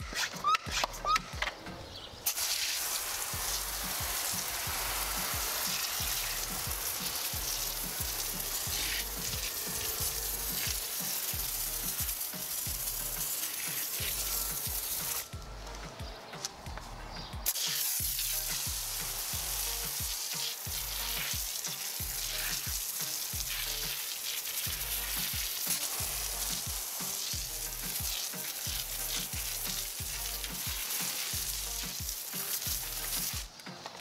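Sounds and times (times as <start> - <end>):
background music with low beat: 0.0 - 34.0
foam sprayer hissing: 2.2 - 34.0.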